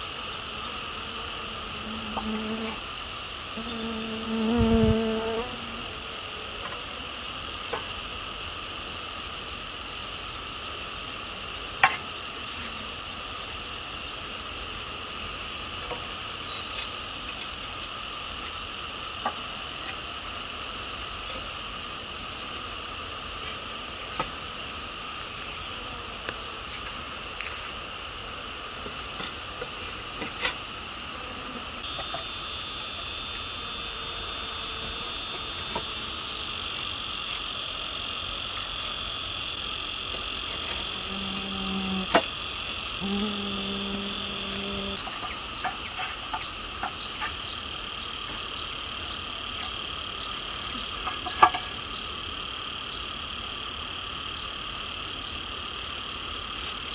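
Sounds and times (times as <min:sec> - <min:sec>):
crickets and insects chirping: 0:00.0 - 0:56.9.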